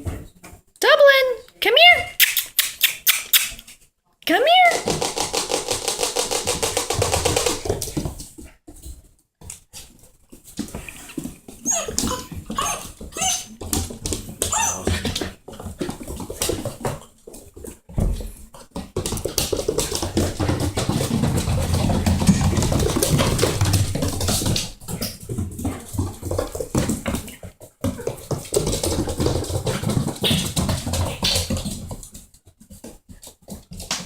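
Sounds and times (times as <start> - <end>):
puppies scuffling and rustling: 4.8 - 34.0.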